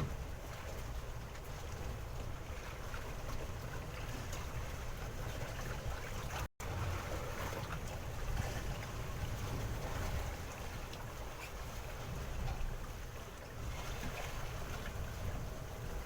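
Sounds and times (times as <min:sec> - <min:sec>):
water and wind noise: 0:00.0 - 0:16.0.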